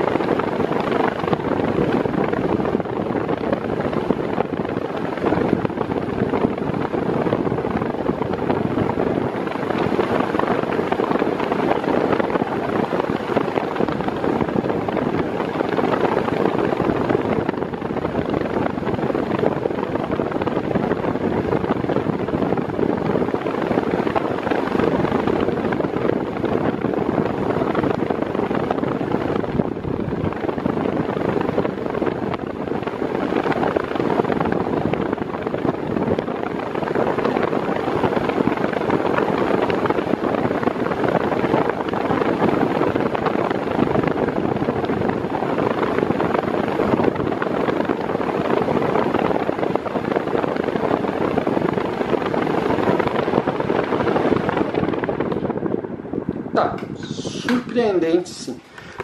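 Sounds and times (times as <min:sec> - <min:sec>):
electric fan rushing air: 0:00.0 - 0:59.0
fan motor hum: 0:00.0 - 0:59.0.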